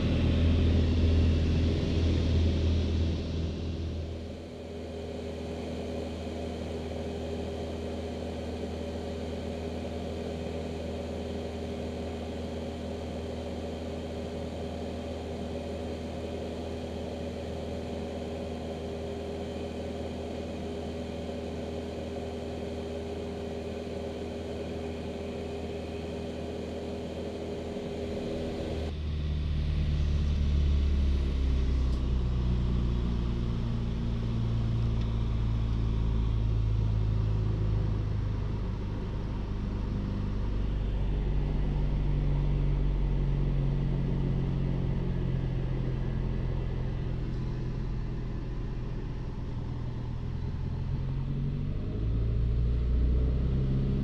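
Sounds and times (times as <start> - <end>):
propeller airplane engine droning: 0.0 - 54.0.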